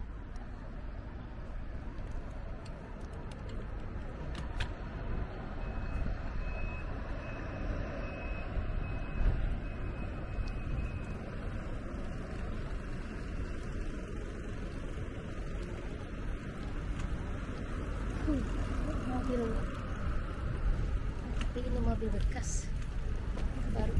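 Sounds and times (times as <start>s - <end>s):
road traffic: 0.0s - 23.9s.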